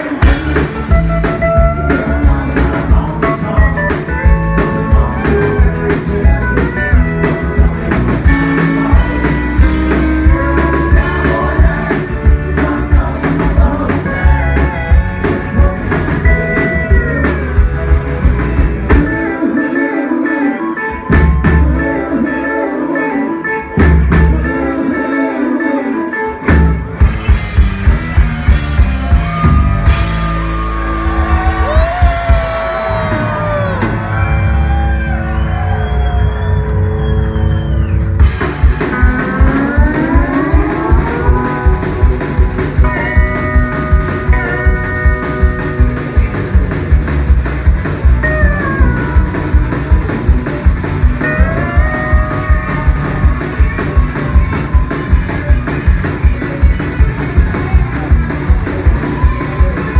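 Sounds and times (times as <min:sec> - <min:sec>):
guitar lead line: 0:00.0 - 0:59.9
live band playing: 0:00.0 - 0:59.9.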